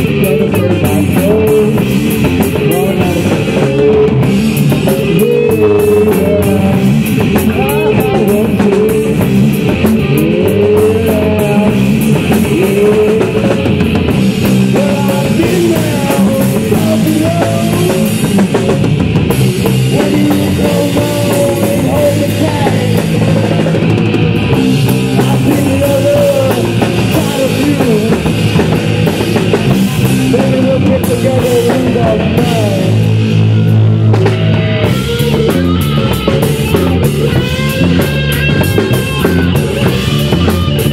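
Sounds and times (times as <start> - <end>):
bass guitar: 0.0 - 40.9
distorted electric guitar: 0.0 - 40.9
drum kit: 0.0 - 40.9.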